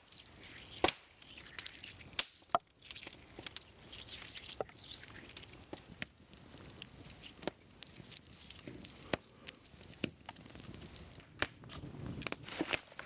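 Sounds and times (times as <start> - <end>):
rustling and tearing: 0.0 - 11.2, 12.4 - 13.0.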